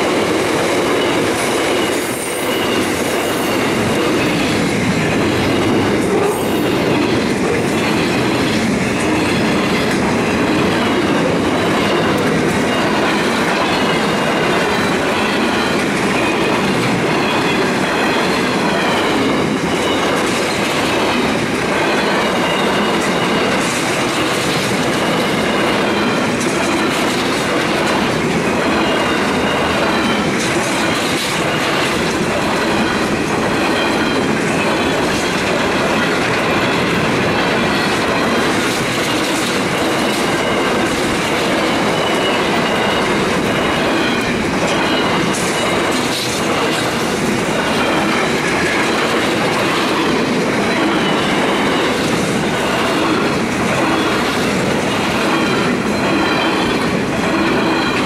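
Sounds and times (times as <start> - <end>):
train wheels clicking over rails: 0.0 - 58.0.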